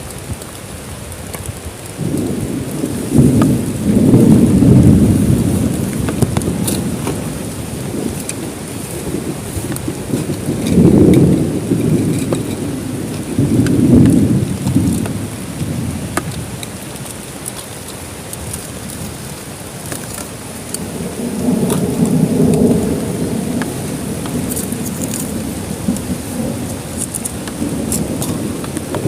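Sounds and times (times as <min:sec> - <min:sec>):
heavy rain falling: 0:00.0 - 0:29.0
rain drop taps: 0:00.0 - 0:29.0
thunder rumbling: 0:01.5 - 0:29.0.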